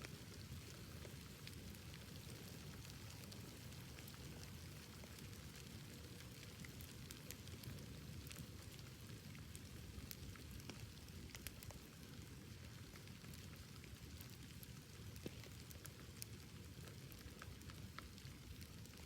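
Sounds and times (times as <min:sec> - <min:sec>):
bonfire crackling: 0:00.0 - 0:19.0
low rumble of flame: 0:00.0 - 0:19.0.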